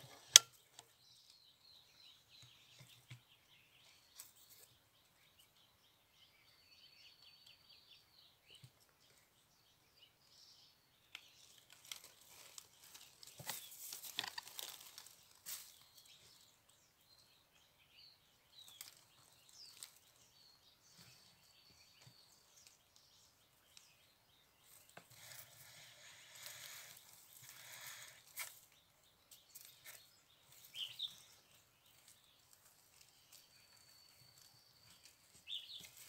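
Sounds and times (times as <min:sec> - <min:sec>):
faint birds chirping: 0:00.0 - 0:36.0.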